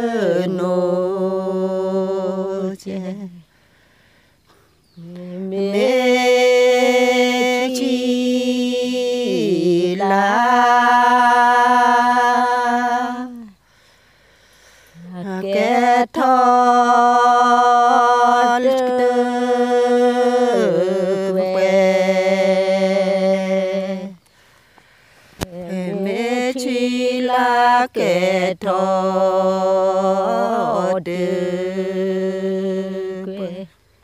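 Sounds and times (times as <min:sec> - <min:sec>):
woman chanting unaccompanied: 0:00.0 - 0:03.6, 0:04.9 - 0:13.6, 0:14.9 - 0:24.2, 0:25.4 - 0:33.8.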